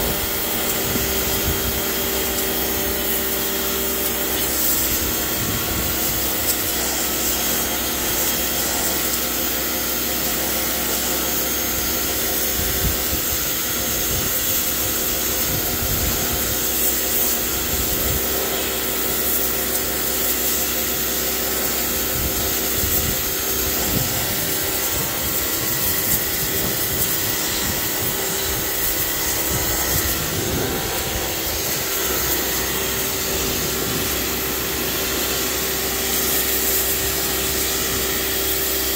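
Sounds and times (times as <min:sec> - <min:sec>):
high-pressure water jet hissing: 0:00.0 - 0:38.9
pressure washer motor humming: 0:00.0 - 0:38.9.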